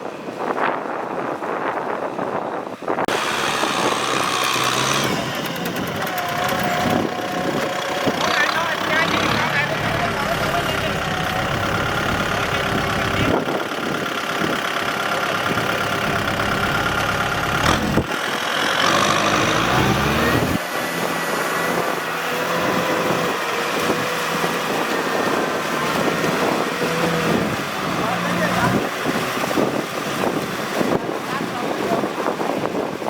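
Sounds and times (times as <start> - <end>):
tractor engine running: 3.0 - 33.0.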